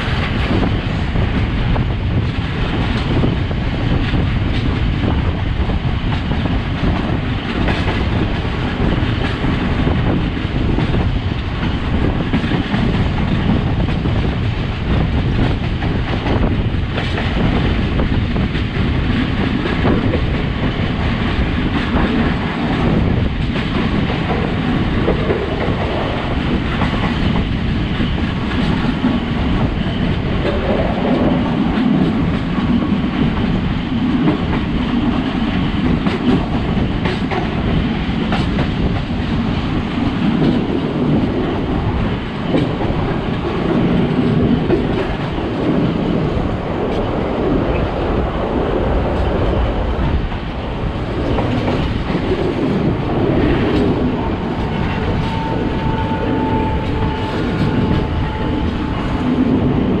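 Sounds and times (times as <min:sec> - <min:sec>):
clickety-clack over rail joints: 0:00.0 - 1:00.0
train wheels rumbling on rails: 0:00.0 - 1:00.0.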